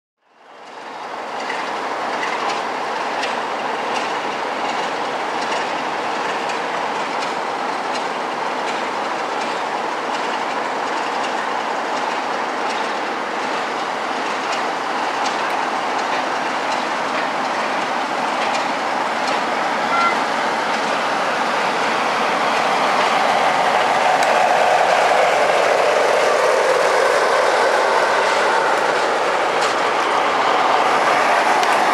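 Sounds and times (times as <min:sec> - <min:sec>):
diesel locomotive: 0:00.2 - 0:31.9
train wheels clicking over rail joints: 0:00.6 - 0:31.9.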